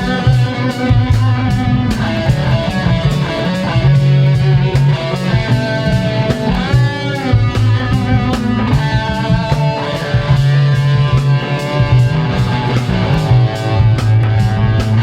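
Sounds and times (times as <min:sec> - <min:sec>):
bass guitar line: 0:00.0 - 0:15.0
drum kit beat: 0:00.0 - 0:15.0
electric guitar: 0:00.0 - 0:15.0.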